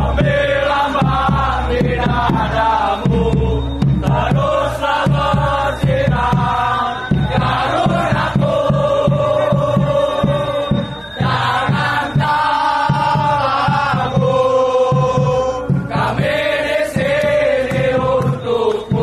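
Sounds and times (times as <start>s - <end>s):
football supporters chanting: 0.0s - 19.0s
steady drum beat: 0.0s - 19.0s.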